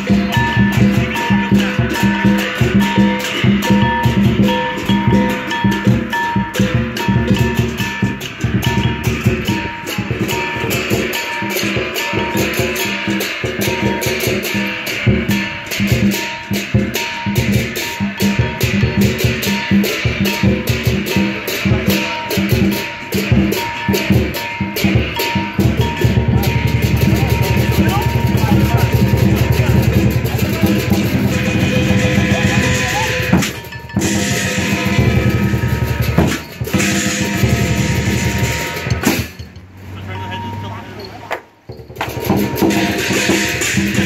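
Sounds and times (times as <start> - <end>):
large drum beating fast: 0.0 - 39.4, 41.7 - 44.0
crashing hand cymbals: 0.0 - 44.0.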